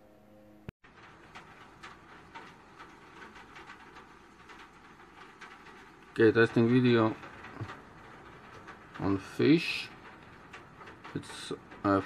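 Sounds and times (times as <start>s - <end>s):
soft irregular ticking: 0.8s - 12.0s.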